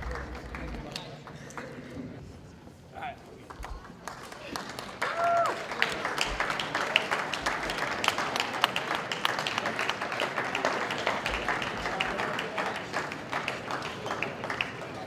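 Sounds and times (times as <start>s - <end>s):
crowd applauding: 0.0s - 2.0s, 3.5s - 15.0s.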